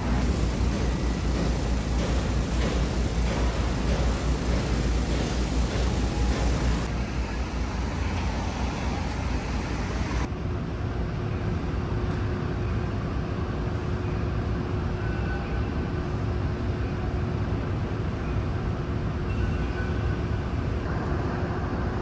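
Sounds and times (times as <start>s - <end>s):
city traffic rumble: 0.0s - 22.0s
distant hum with steady tone: 0.0s - 22.0s.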